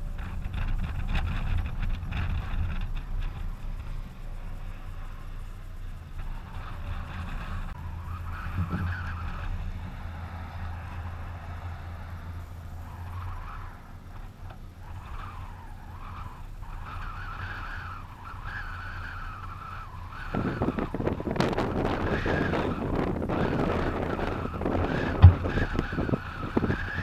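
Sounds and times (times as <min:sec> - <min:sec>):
car engine drone: 0:00.0 - 0:27.0.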